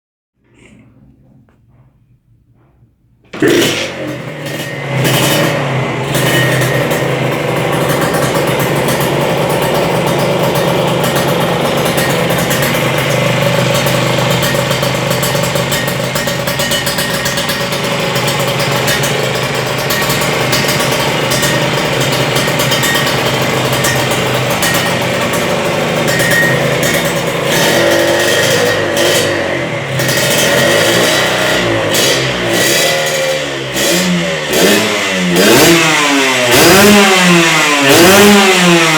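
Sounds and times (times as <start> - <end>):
motorcycle engine fast idle: 3.4 - 38.9.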